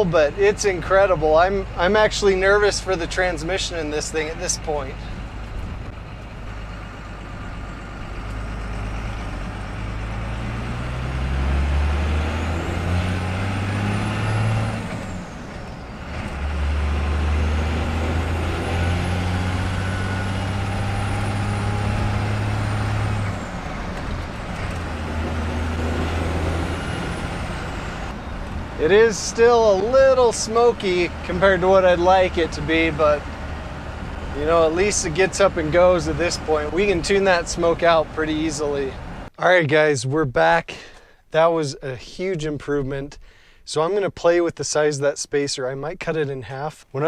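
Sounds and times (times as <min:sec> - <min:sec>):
diesel engine accelerating: 0:00.0 - 0:40.6.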